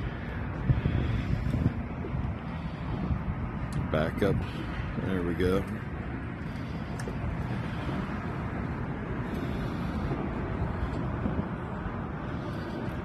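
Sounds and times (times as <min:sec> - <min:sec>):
choppy water around boat: 0:00.0 - 0:13.0
wind rushing: 0:00.0 - 0:13.0.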